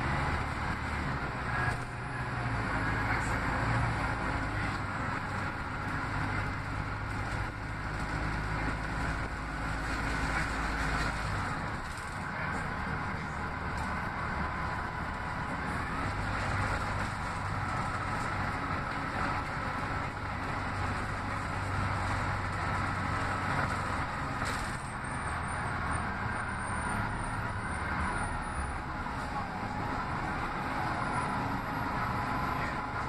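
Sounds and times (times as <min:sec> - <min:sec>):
bus engine drone: 0:00.0 - 0:33.0
road noise: 0:00.0 - 0:33.0.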